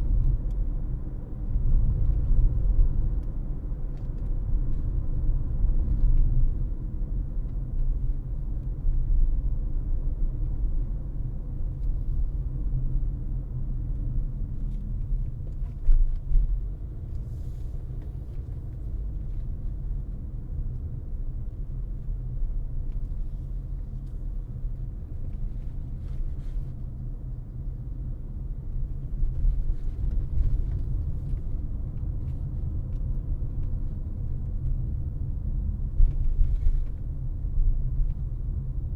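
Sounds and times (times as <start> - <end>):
car road rumble: 0.0 - 38.9.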